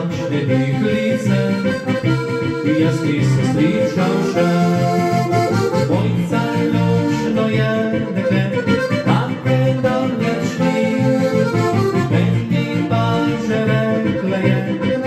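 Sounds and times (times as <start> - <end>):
button accordion folk tune: 0.0 - 15.0
man singing: 0.0 - 15.0.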